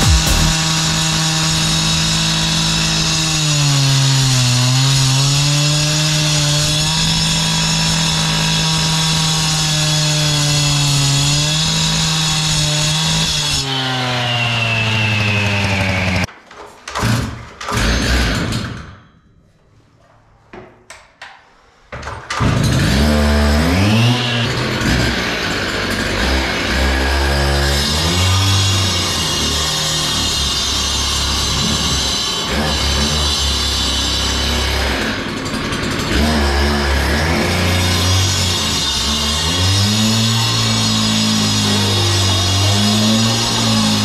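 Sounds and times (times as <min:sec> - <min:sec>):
cut-off saw engine: 0:00.0 - 0:16.3, 0:22.7 - 0:44.0
saw blade grinding concrete: 0:00.0 - 0:16.3, 0:22.5 - 0:44.0.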